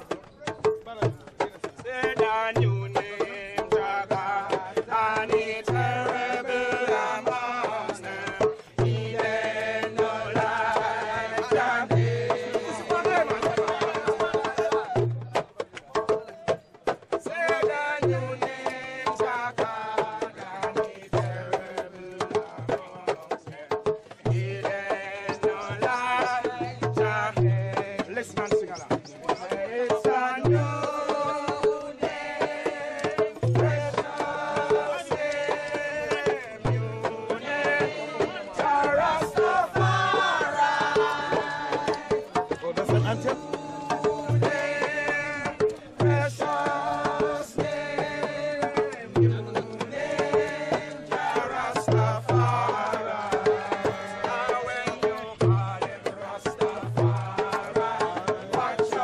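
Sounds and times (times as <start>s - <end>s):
hand drum fast rhythm: 0.0s - 59.0s
people singing: 0.0s - 59.0s.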